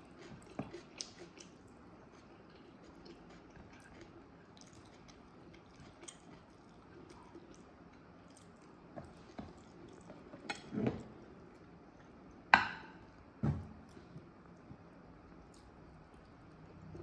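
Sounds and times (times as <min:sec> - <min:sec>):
faint chewing: 0:00.0 - 0:12.4, 0:13.8 - 0:17.0.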